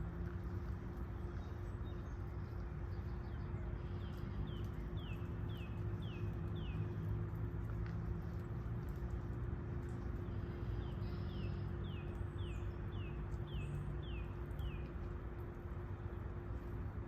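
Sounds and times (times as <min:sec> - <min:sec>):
constant low hum: 0:00.0 - 0:17.0
steady low rumble: 0:00.0 - 0:17.0.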